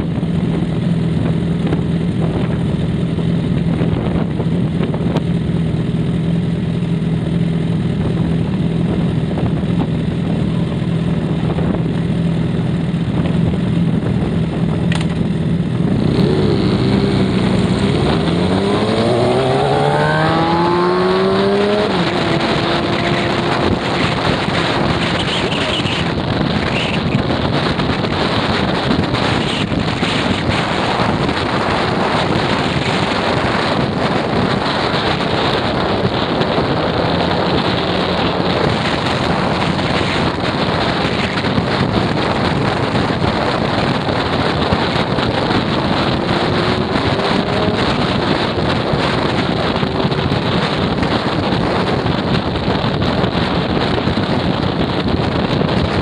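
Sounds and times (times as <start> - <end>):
scooter engine and road noise: 0.0 - 56.0
wind rushing over microphone: 0.0 - 56.0.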